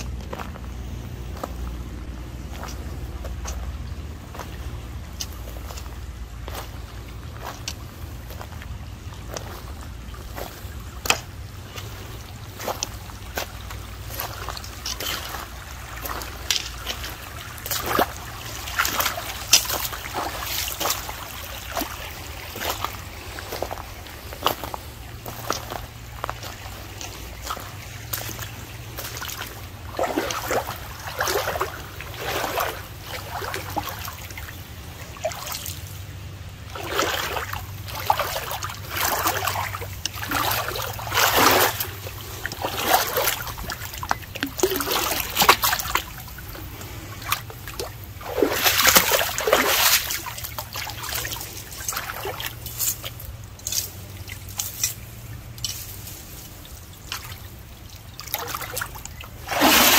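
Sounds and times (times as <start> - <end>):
creek water splashing: 0.0 - 59.9.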